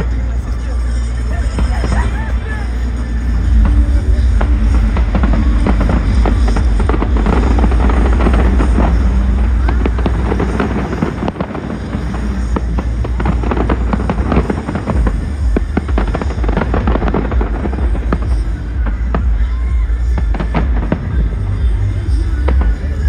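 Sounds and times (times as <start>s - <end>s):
fireworks bursting and crackling: 0.0s - 23.0s
music with heavy bass: 0.0s - 23.0s.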